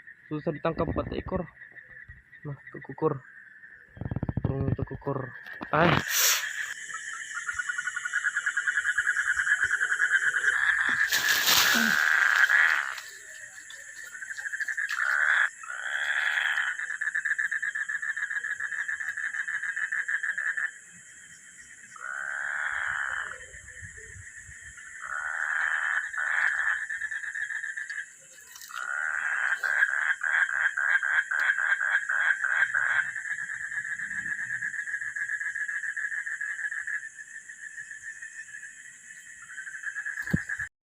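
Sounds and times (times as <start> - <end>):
frogs croaking: 0.0 - 40.7
high insect buzz: 5.5 - 23.3, 24.2 - 40.7.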